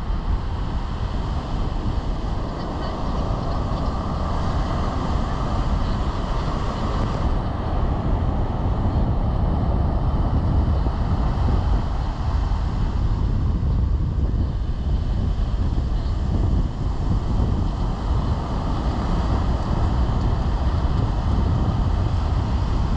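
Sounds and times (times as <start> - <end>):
ocean surf: 0.0 - 22.9
wind noise on microphone: 0.0 - 22.9.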